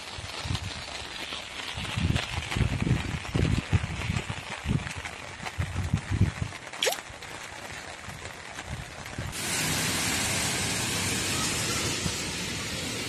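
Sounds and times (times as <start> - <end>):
heavy rain on wet road: 0.0 - 13.0.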